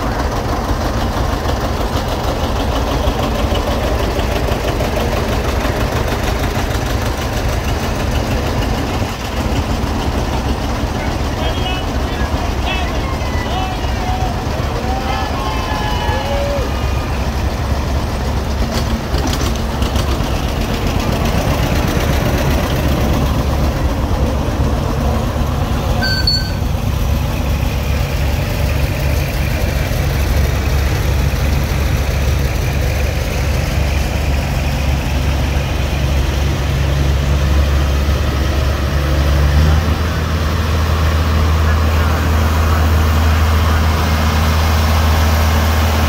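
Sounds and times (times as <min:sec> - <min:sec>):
tractor engines rumbling: 0:00.0 - 0:46.0.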